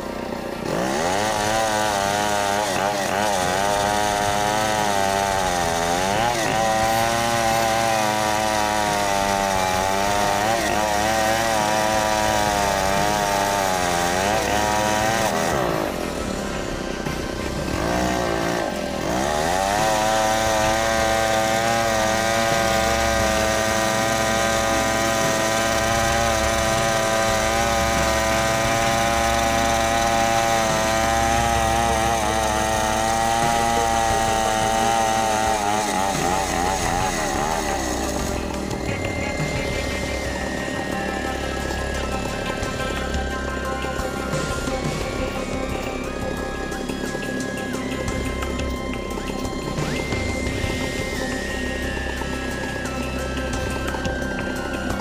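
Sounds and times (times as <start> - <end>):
chainsaw ripping a log: 0.0 - 55.0.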